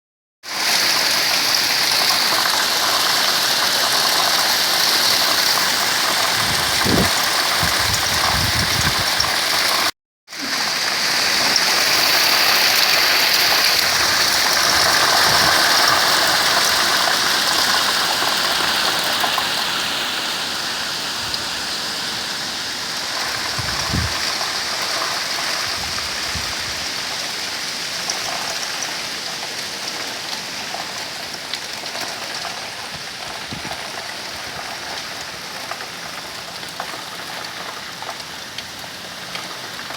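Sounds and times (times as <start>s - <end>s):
hailstones pelting down: 0.5s - 20.0s, 22.8s - 39.9s.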